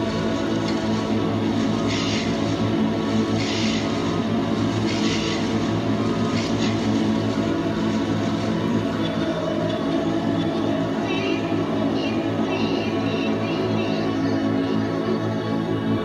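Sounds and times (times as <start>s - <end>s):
low electronic drone: 0.0s - 16.0s.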